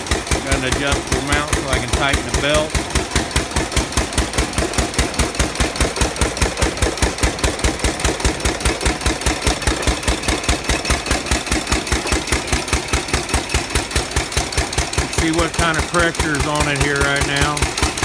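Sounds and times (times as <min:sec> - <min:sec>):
engine driving air compressor: 0:00.0 - 0:18.0.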